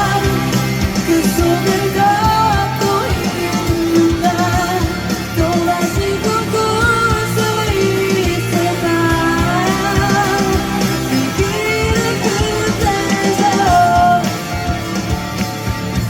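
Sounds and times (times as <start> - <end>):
live pop-rock band music: 0.0 - 16.0.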